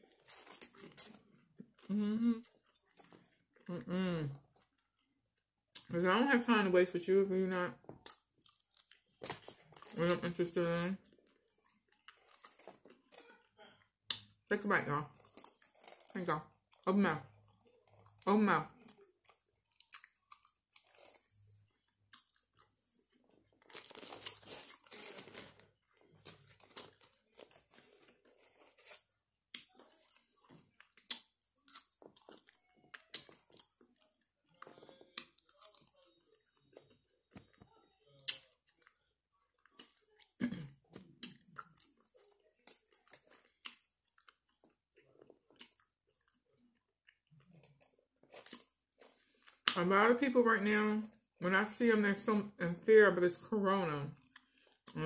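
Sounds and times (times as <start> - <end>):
person chewing crunchy food: 0.0 - 5.9, 7.9 - 10.1, 11.0 - 14.5, 15.1 - 49.8, 54.2 - 55.0.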